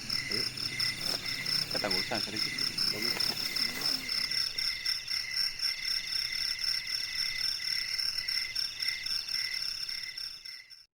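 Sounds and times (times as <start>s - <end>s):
frogs calling: 0.0s - 10.8s
insects trilling: 0.0s - 10.9s.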